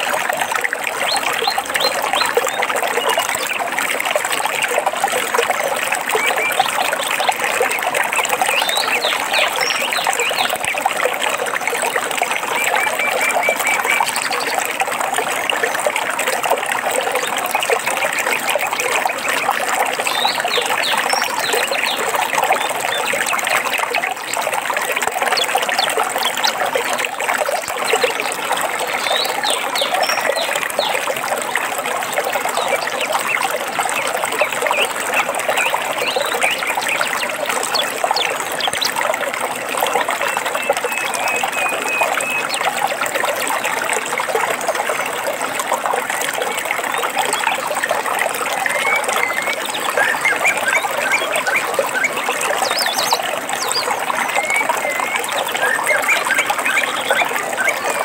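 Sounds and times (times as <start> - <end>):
water trickling and babbling: 0.0 - 58.0.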